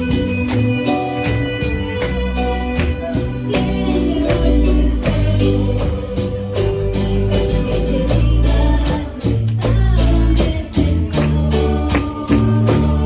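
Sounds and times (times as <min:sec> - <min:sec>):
person singing: 0:00.0 - 0:13.0
plucked guitar: 0:00.0 - 0:13.0
strong bass line: 0:02.0 - 0:13.0.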